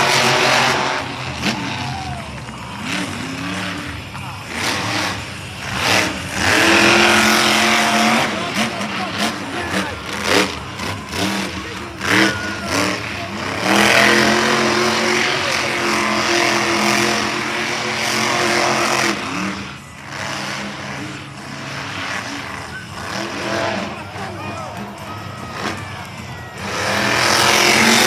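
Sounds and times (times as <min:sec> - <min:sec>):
truck engine revving high: 0:00.0 - 0:28.0.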